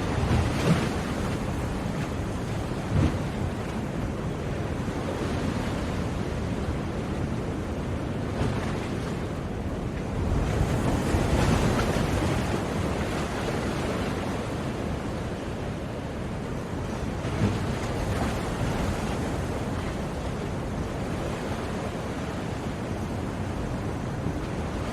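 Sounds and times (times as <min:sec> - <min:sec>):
ocean waves breaking: 0:00.0 - 0:24.9.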